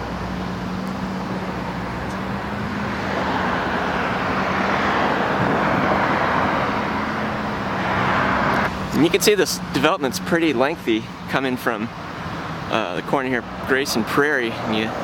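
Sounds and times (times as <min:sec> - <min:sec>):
low engine hum: 0:00.0 - 0:15.0
passing cars road noise: 0:00.0 - 0:15.0.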